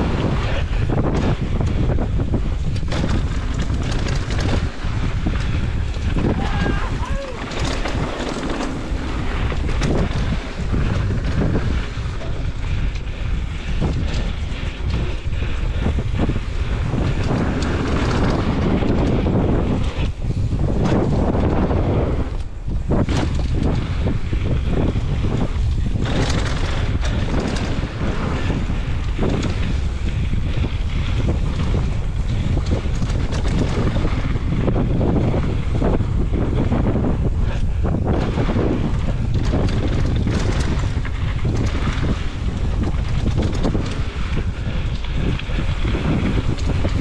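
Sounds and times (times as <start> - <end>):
bike rattling and knocking: 0.0 - 47.0
tyre noise on dirt: 0.0 - 47.0
wind buffeting microphone: 0.0 - 47.0.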